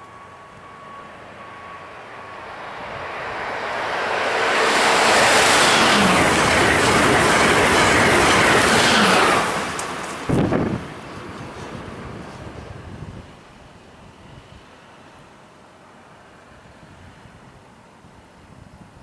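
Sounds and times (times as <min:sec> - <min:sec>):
passenger train passing: 0:00.0 - 0:19.0.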